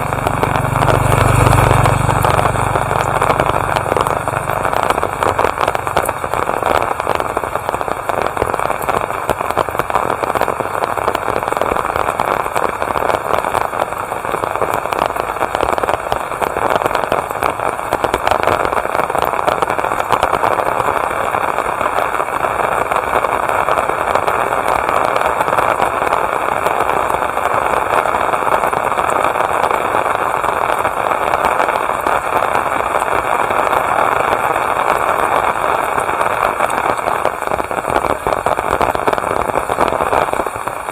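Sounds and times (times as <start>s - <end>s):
heavy rain patter: 0.0s - 40.9s.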